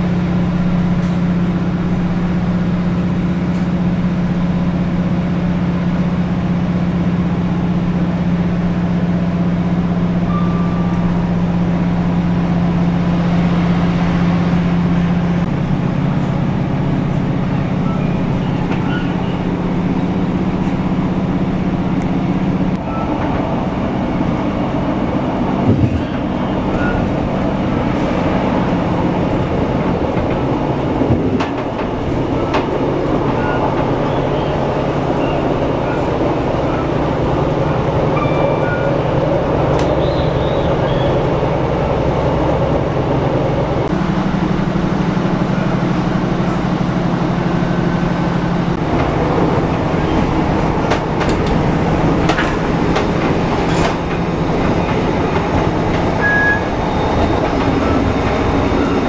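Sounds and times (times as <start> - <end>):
diesel engine drone: 0.0 - 59.0
wheel and rail noise: 0.0 - 59.0.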